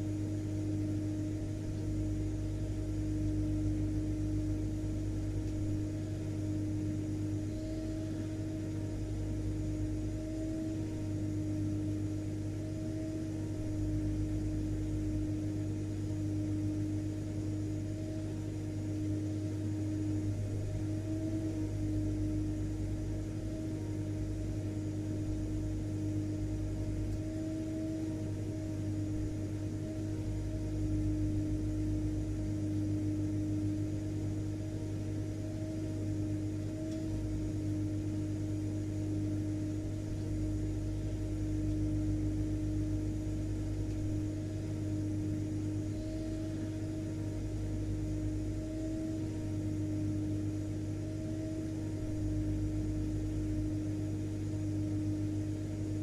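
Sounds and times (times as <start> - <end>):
vacuum cleaner motor running: 0.0 - 56.0.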